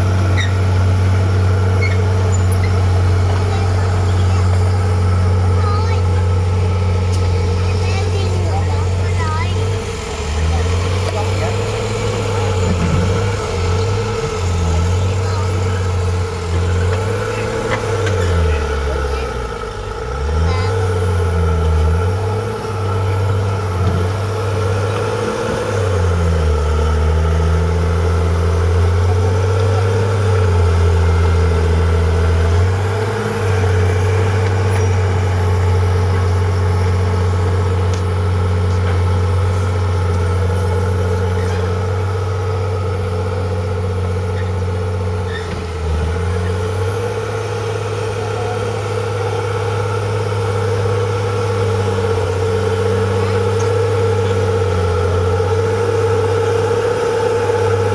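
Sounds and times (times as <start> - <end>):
heavy machinery diesel engine running: 0.0 - 57.9.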